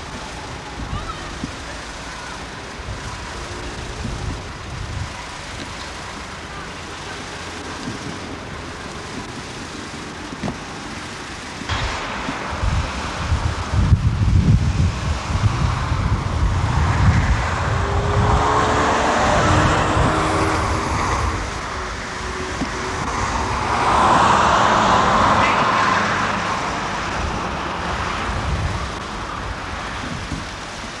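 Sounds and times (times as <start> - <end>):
road traffic: 0.0 - 31.0
vehicles passing: 0.0 - 31.0
wind rumbling on microphone: 0.0 - 31.0.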